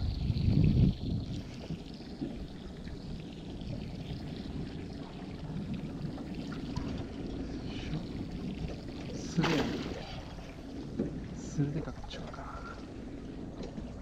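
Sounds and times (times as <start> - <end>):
steady low rumble: 0.0 - 14.0
water sloshing against boat hull: 0.0 - 14.0.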